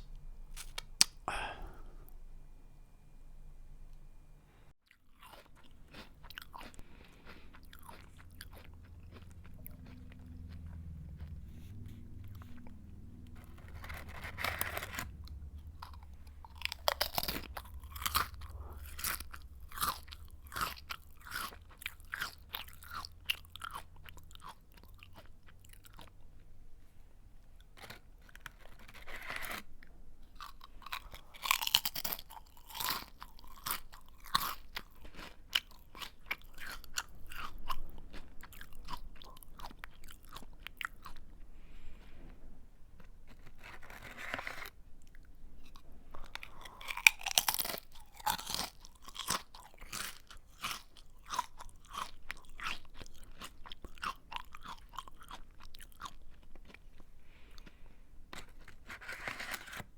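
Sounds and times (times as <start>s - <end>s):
chewing crunchy snack: 0.5s - 1.8s, 4.8s - 26.6s, 27.6s - 59.9s.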